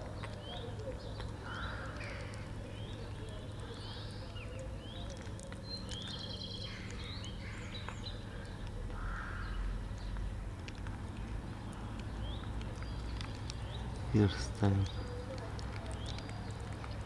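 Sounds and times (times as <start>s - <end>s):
kittens chewing wet food: 0.0s - 17.0s
small birds chirping: 0.0s - 17.0s.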